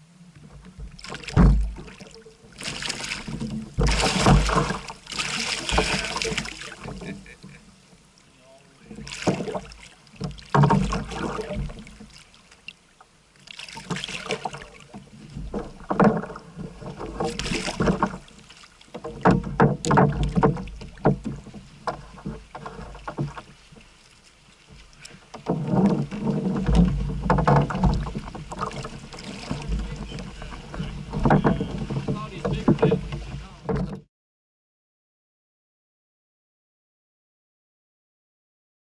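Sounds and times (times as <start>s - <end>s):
water splashing against kayak: 0.0s - 34.1s.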